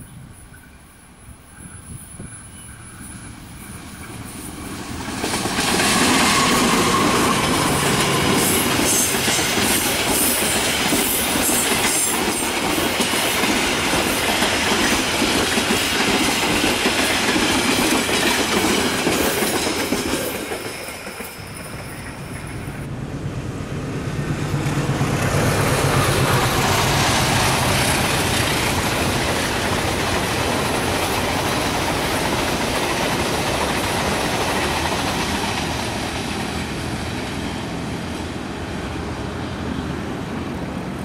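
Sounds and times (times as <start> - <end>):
diesel locomotive passing: 0.0 - 41.0
train wheels on rails: 0.0 - 41.0.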